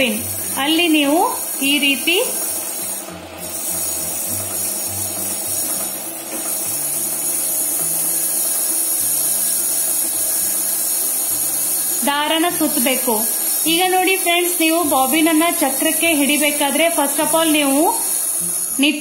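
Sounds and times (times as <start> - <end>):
low background music: 0.0 - 19.0
sewing machine bobbin whirring: 0.0 - 19.0.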